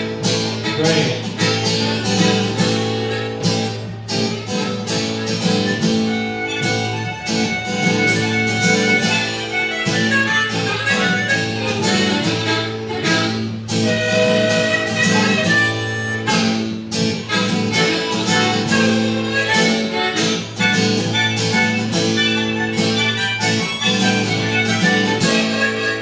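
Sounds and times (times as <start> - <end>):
acoustic guitar strumming: 0.0 - 26.0
harmonica solo: 0.0 - 26.0.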